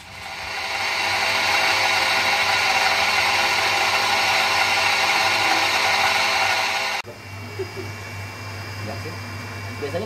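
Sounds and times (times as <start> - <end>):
electric water pump whirring: 0.0 - 10.0.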